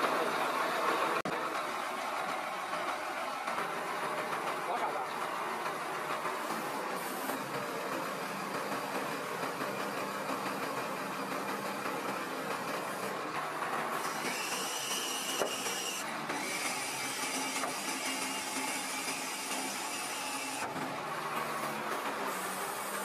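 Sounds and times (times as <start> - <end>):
truck engine and hydraulics running: 0.0 - 23.0.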